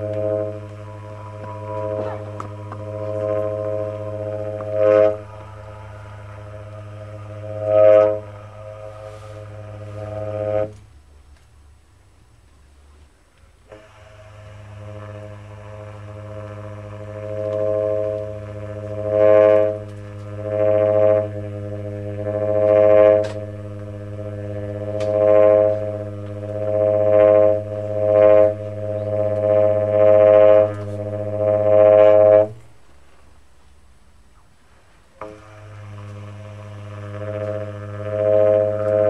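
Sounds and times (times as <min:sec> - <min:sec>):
tenor saxophone low drone note: 0:00.0 - 0:11.2, 0:13.7 - 0:32.8, 0:35.2 - 0:39.0.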